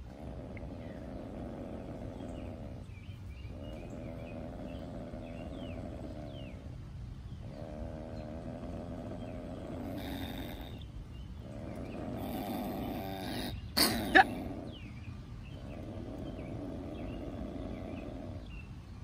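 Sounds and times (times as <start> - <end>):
opossum growling: 0.0 - 19.0.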